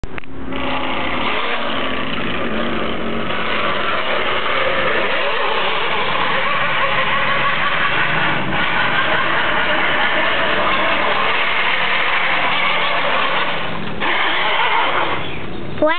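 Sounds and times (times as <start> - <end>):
model speedboat motor racing: 0.0 - 15.6.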